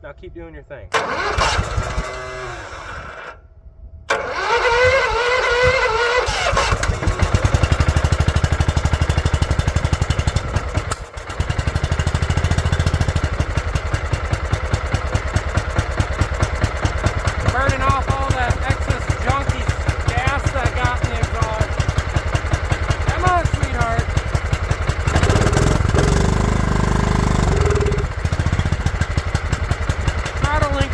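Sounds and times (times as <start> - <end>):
small gasoline engine running: 1.0 - 3.4, 4.1 - 30.9.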